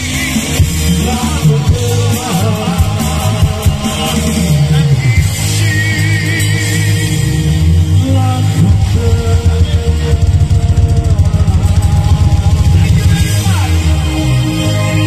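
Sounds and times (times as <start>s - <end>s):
drum kit: 0.0s - 15.0s
electric guitar: 0.0s - 15.0s
heavy bass: 0.0s - 15.0s
keyboard: 0.0s - 15.0s.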